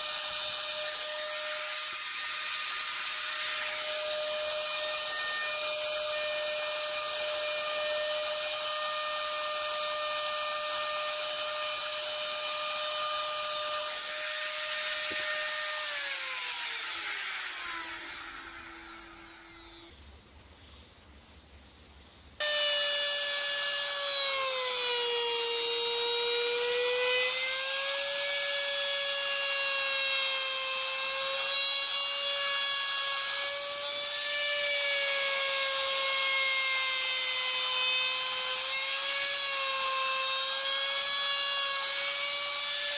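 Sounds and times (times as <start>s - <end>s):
router bit cutting wood: 0.0s - 19.9s, 22.4s - 42.9s
trim router motor whining: 0.0s - 19.9s, 22.4s - 42.9s.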